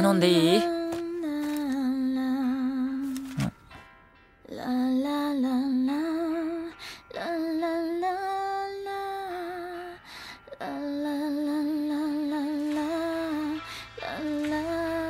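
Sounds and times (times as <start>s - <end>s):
woman singing wordless melody: 0.0s - 3.6s, 4.4s - 15.0s.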